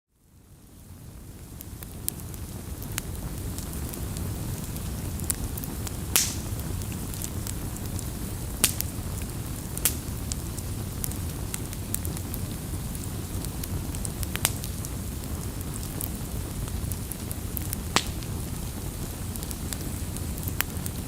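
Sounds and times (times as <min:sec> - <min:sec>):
low rumble of flames: 0:00.1 - 0:21.0
burning wood crackling and popping: 0:00.3 - 0:21.0.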